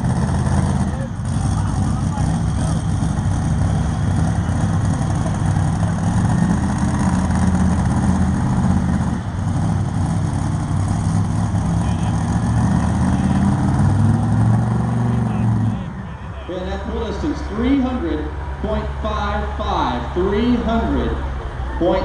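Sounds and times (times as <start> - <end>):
truck engine running under load: 0.0 - 22.0.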